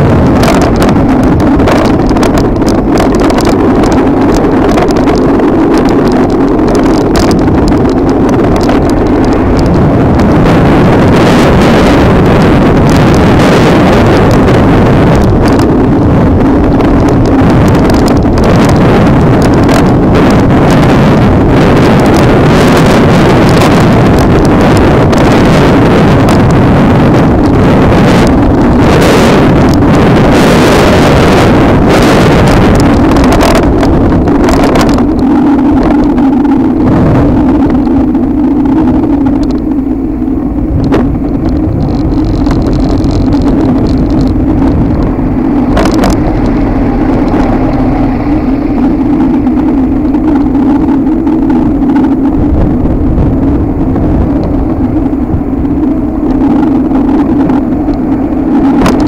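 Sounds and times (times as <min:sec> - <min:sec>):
electric scooter hum: 0:00.0 - 0:59.0
road noise: 0:00.0 - 0:59.0
wind rushing over microphone: 0:00.0 - 0:59.0.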